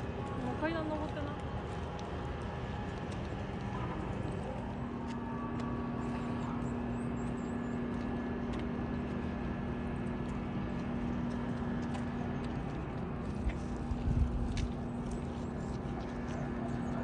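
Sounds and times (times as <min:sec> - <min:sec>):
mechanical hum: 0:00.0 - 0:17.0
outdoor background noise: 0:00.0 - 0:17.0.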